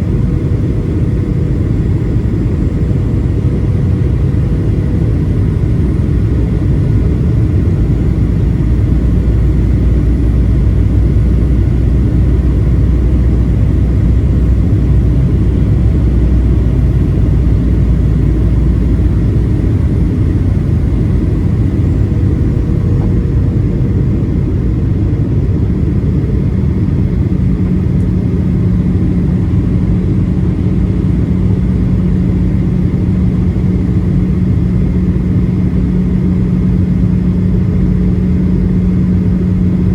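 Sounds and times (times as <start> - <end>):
aircraft cabin engine rumble: 0.0 - 39.9
low hum: 0.0 - 39.9
higher steady drone: 1.6 - 34.6.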